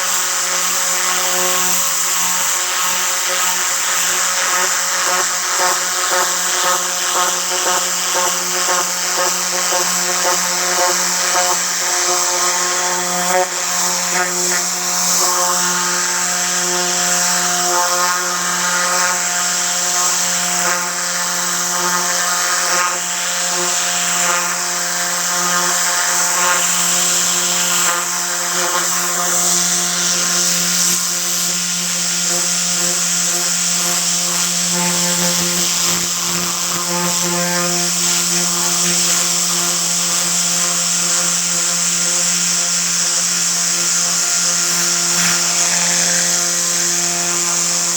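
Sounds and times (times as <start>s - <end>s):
compressed-air gun whirring hiss: 0.0s - 47.9s.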